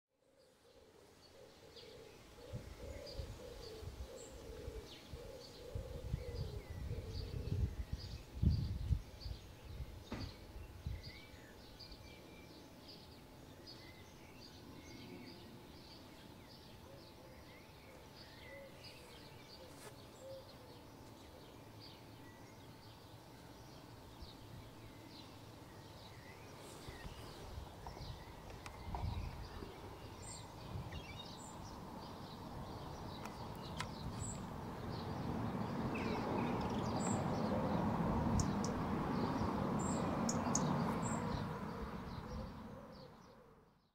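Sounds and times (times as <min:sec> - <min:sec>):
small birds chirping: 0:00.2 - 0:43.9.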